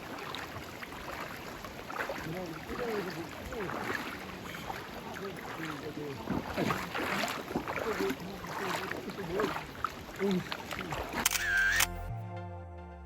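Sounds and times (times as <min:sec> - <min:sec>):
stream water rushing and splashing: 0:00.0 - 0:12.0.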